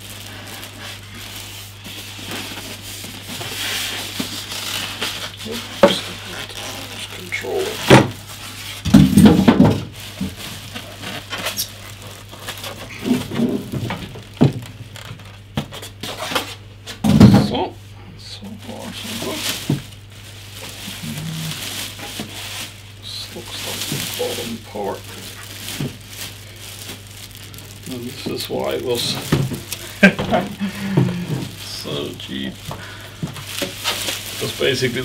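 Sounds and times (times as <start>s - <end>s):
plastic bag crinkling: 0.0s - 16.5s, 18.4s - 35.0s
polystyrene foam rubbing: 0.0s - 16.7s, 18.4s - 35.0s.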